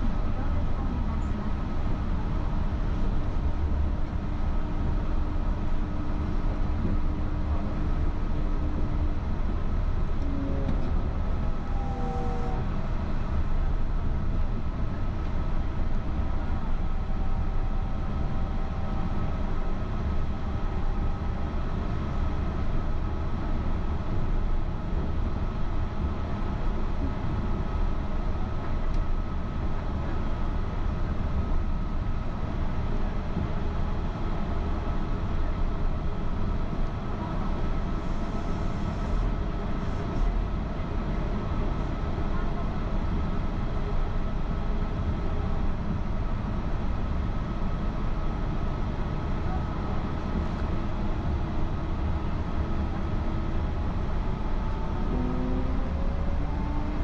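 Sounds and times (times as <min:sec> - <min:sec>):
train rumble from inside: 0:00.0 - 0:57.0.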